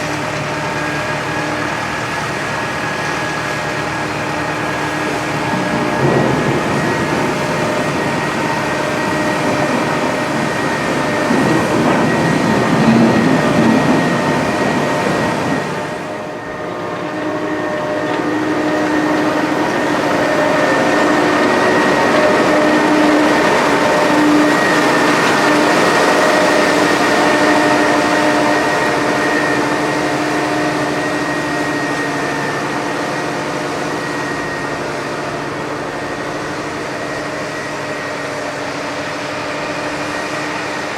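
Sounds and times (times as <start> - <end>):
harvester engine rumbling: 0.0 - 40.9
machinery whining tones: 0.0 - 40.9.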